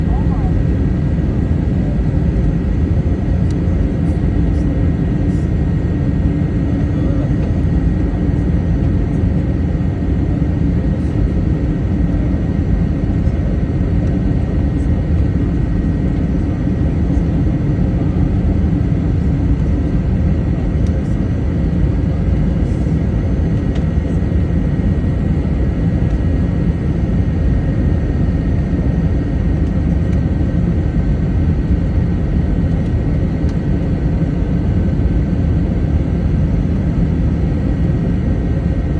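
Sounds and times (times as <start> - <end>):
jet engine rumble and rushing air: 0.0 - 38.9.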